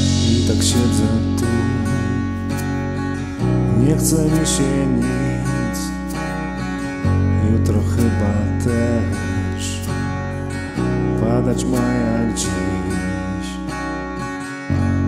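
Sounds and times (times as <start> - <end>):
strummed acoustic guitar: 0.0 - 15.0
sustained bass notes: 0.0 - 15.0.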